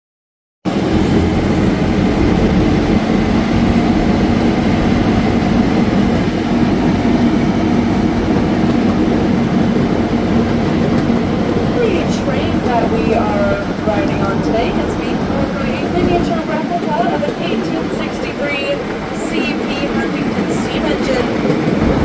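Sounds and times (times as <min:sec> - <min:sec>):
miniature train rumbling on track: 0:00.7 - 0:22.0.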